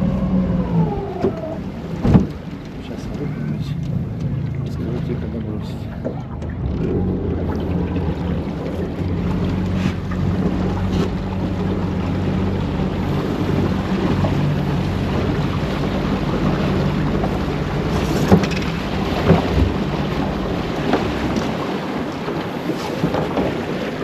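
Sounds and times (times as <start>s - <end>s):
water noise: 0.0s - 24.0s
wind buffeting microphone: 0.0s - 24.0s.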